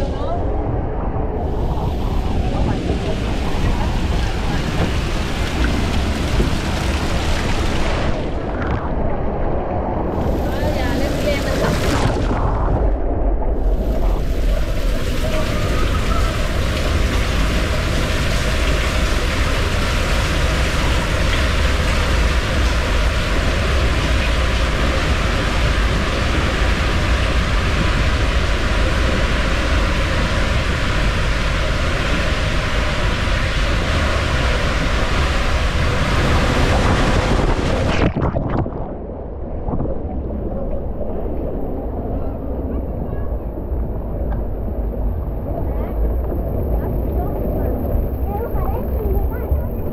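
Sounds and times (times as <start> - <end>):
rushing water: 0.0 - 49.9
wind buffeting microphone: 0.0 - 49.9.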